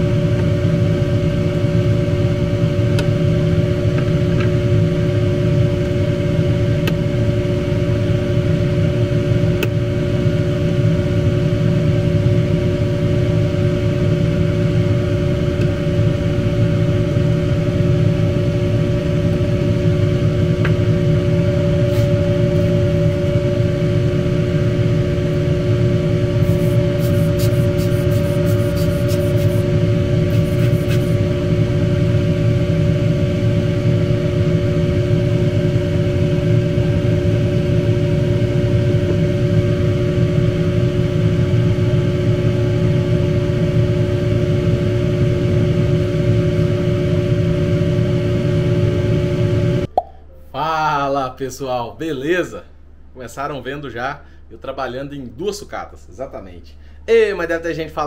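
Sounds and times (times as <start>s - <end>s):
machine hum: 0.0s - 50.9s, 52.0s - 58.0s.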